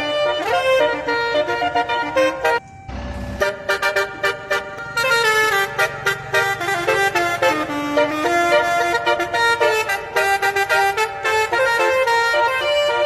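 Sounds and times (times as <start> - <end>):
multi-tone horns playing a melody: 0.0 - 13.0.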